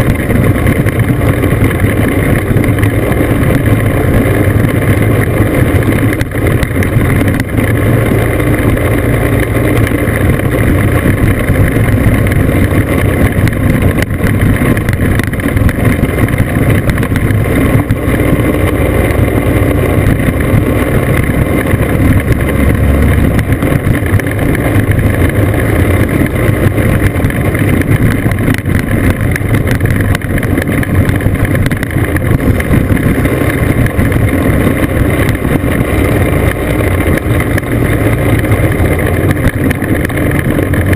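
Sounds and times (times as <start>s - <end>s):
two-stroke scooter engine running: 0.0s - 40.9s
tyres rolling on gravel: 0.0s - 40.9s
wind on microphone: 0.0s - 40.9s.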